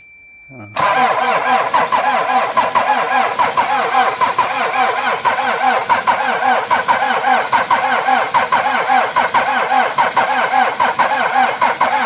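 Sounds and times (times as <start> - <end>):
starter motor cranking engine: 0.8 - 12.0.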